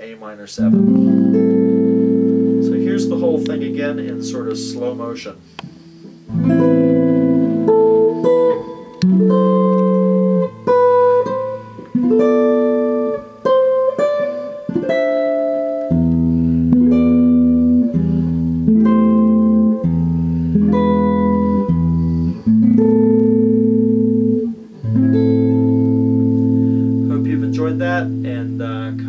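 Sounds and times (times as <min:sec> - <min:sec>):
electric guitar jazz chords: 0:00.6 - 0:29.0.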